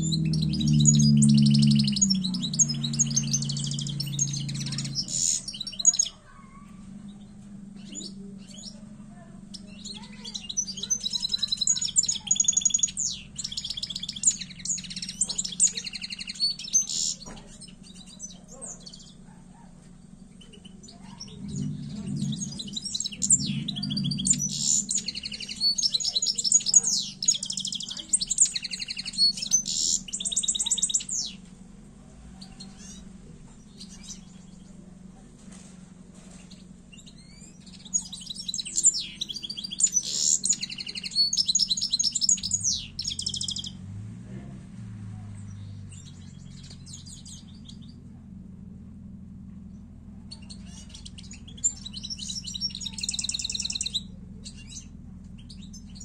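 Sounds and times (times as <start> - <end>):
finch twittering song: 0.0 - 31.5, 32.3 - 34.9, 36.2 - 43.9, 45.2 - 48.1, 49.7 - 56.0.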